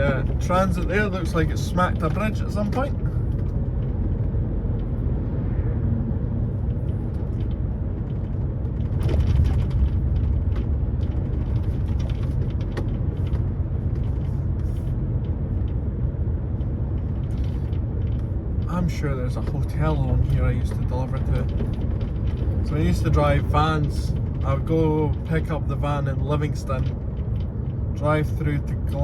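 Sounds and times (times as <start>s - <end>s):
diesel engine rumble: 0.0s - 29.0s
road noise: 0.0s - 29.0s.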